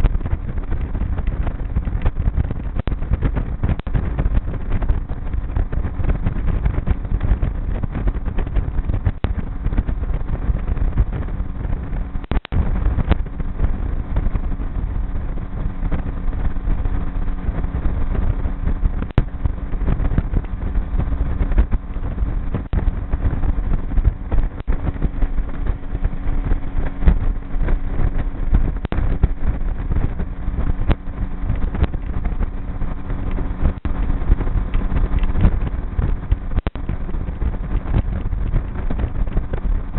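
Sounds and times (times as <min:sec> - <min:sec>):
outboard motor running: 0:00.0 - 0:39.9
wind buffeting microphone: 0:00.0 - 0:39.9.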